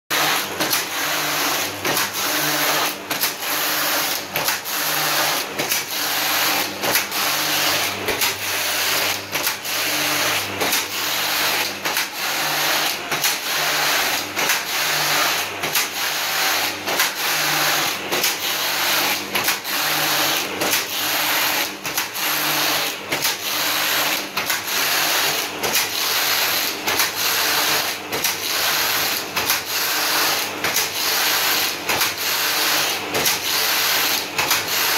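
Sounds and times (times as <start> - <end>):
knitting machine rasping whir: 0.1 - 34.9.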